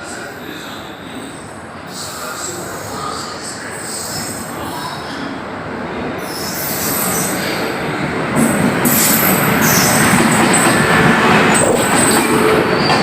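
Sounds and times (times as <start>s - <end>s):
train coaches rumbling on track: 0.0s - 13.0s.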